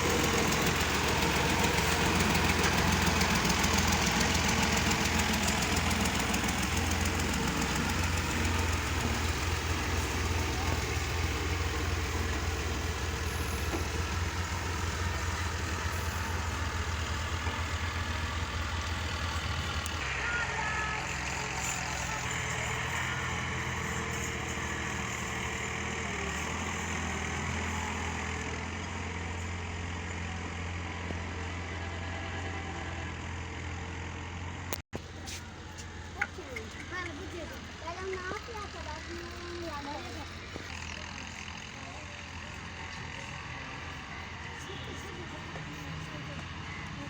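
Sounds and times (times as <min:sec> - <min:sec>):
tractor diesel engine idling: 0:00.0 - 0:47.0.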